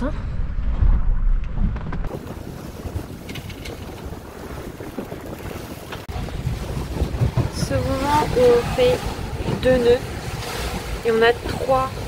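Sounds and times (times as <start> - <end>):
wind rushing over microphone: 0.0 - 12.0
sea washing along hulls: 0.4 - 12.0.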